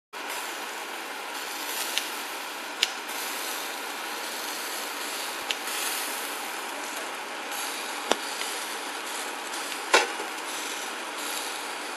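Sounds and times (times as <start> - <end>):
meat sizzling on grill: 0.2 - 11.9.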